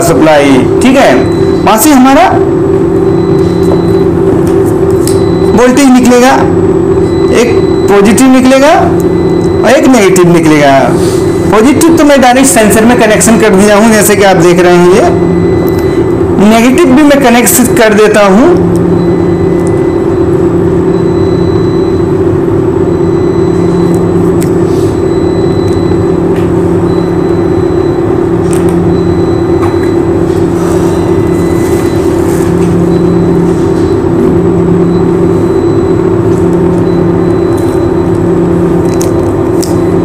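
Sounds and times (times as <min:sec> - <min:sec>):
low pulsing drone: 0:00.0 - 0:09.8, 0:12.6 - 0:40.0
loud steady machine hum: 0:00.0 - 0:40.0.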